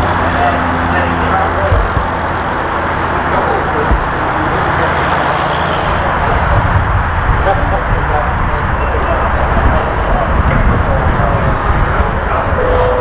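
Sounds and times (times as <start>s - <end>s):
faint voices: 0.0s - 13.0s
outdoor background noise: 0.0s - 13.0s
vehicle engine idling: 0.0s - 13.0s.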